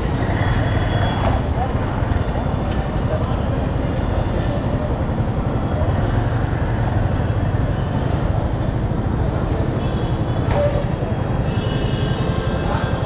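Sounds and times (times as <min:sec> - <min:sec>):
motorcycle engines idling: 0:00.0 - 0:11.6.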